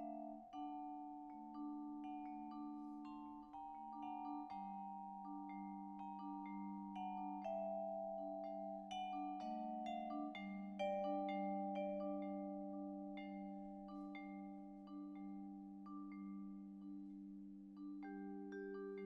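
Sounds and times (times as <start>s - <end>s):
mallet percussion music: 0.0s - 19.0s.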